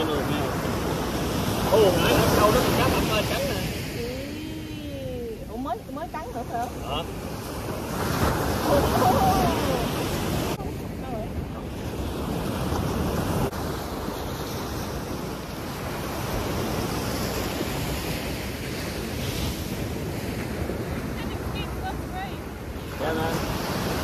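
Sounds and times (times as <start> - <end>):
surf washing up a beach: 0.0 - 24.0
wind rumbling on microphone: 0.0 - 24.0.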